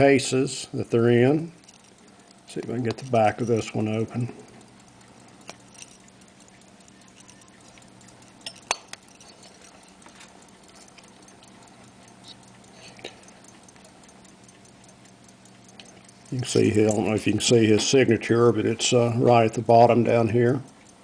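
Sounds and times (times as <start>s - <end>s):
pocket watch ticking: 0.0s - 21.0s.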